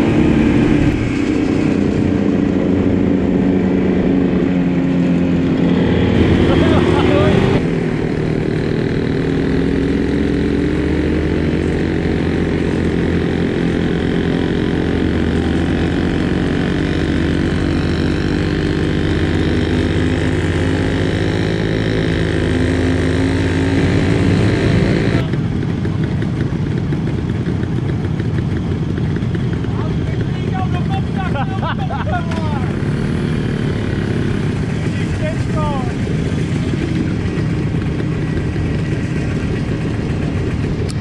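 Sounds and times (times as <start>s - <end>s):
scooter engines running: 0.0s - 41.0s.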